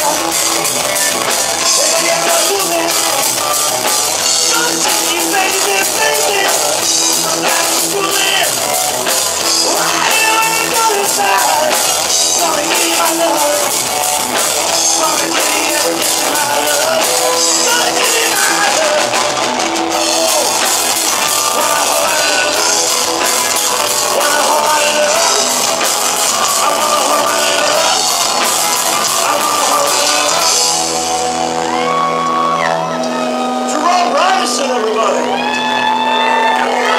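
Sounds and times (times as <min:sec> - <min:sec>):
bass: 0:00.0 - 0:36.9
drum kit: 0:00.0 - 0:36.9
electric guitar: 0:00.0 - 0:36.9.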